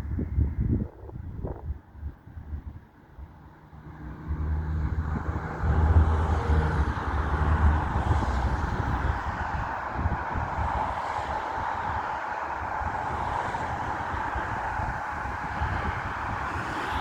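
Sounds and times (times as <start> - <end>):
train passing rumble: 3.2 - 17.0.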